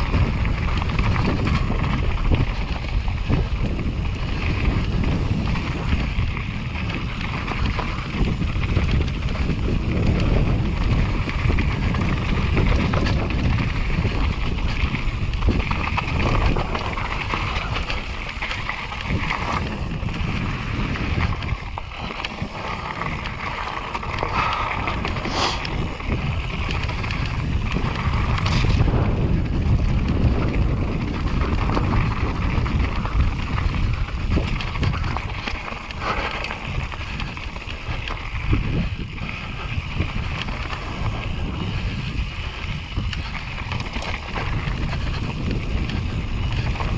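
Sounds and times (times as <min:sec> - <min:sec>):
bike rattling: 0:00.0 - 0:46.9
tyres crunching on loose stones: 0:00.0 - 0:46.9
wind buffeting microphone: 0:00.0 - 0:46.9.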